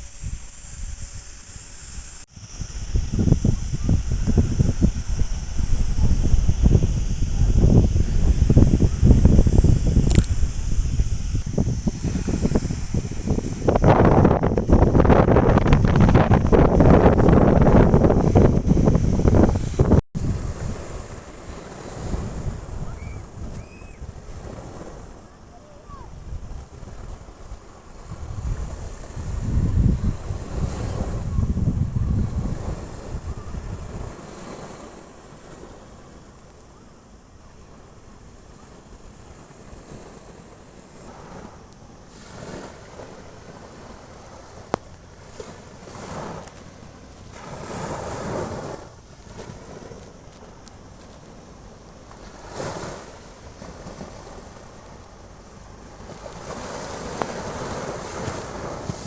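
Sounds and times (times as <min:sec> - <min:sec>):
sea surf: 0:00.0 - 0:59.0
wind buffeting microphone: 0:00.0 - 0:59.0.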